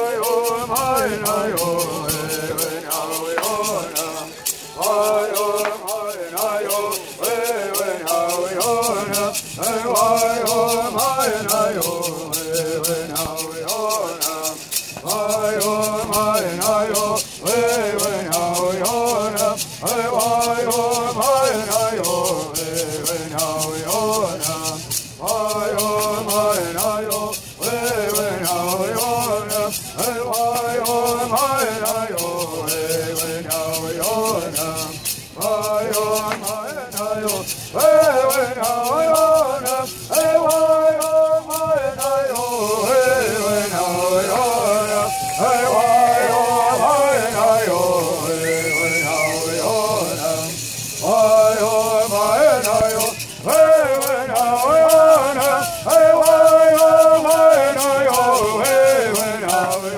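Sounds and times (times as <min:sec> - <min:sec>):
gourd rattles shaking: 0:00.0 - 0:59.9
group singing in unison: 0:00.0 - 0:59.9.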